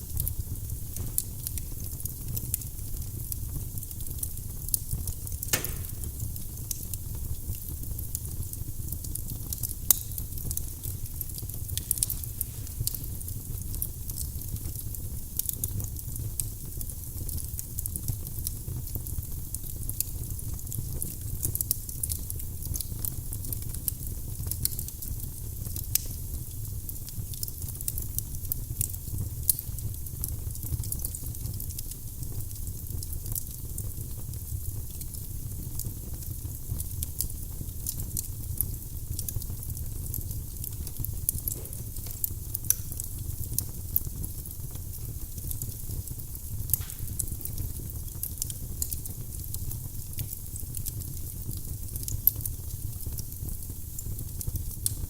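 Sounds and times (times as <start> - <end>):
fire low rumble: 0.0 - 22.4, 32.2 - 55.0
firewood crackling and popping: 0.0 - 55.0.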